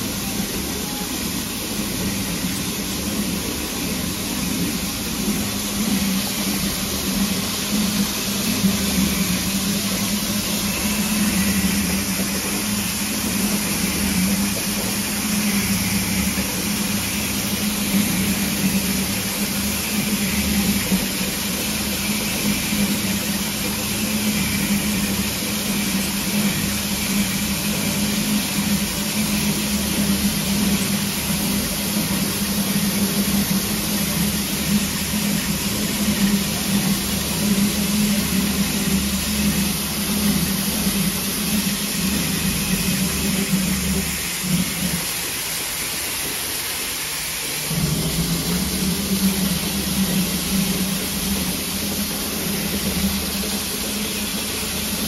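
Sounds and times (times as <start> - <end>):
continuous low hum: 0.0 - 55.0
steam hissing: 0.0 - 55.0.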